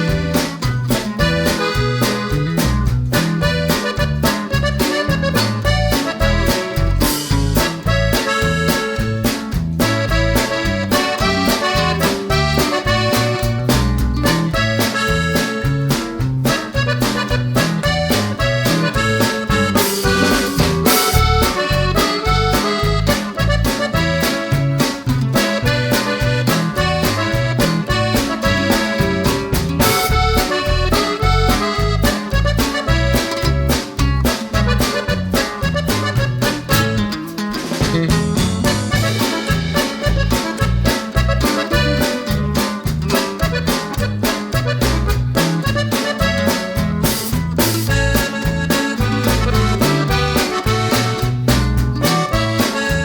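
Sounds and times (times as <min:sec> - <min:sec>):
upbeat instrumental music: 0:00.0 - 0:53.0.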